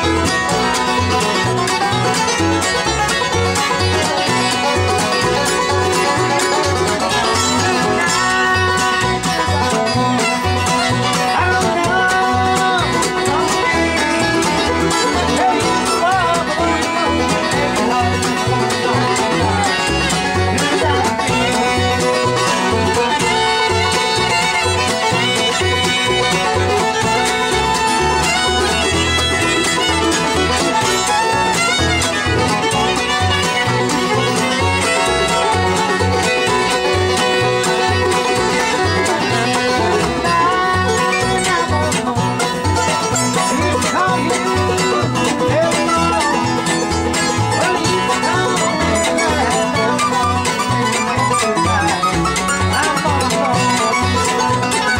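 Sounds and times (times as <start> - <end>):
bluegrass band playing: 0.0 - 54.9
fiddle melody: 0.0 - 54.9
plucked strings: 0.0 - 54.9
upright bass notes: 0.0 - 54.9.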